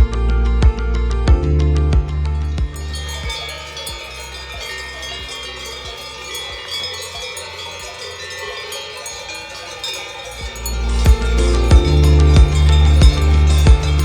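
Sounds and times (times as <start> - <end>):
cowbells clanking: 2.4 - 14.0.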